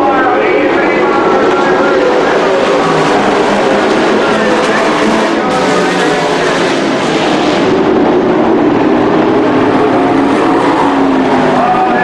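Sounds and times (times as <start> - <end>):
race truck engines passing: 0.0 - 12.0.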